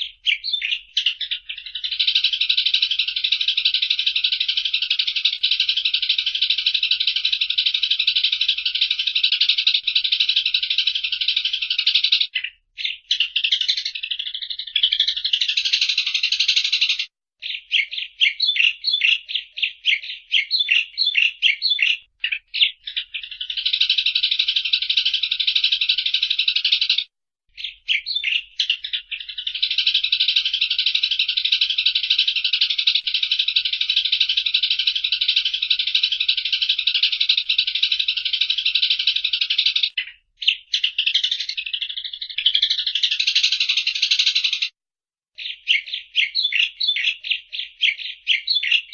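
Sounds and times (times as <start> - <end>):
sparrow chattering: 0.0 - 44.8, 45.4 - 48.9.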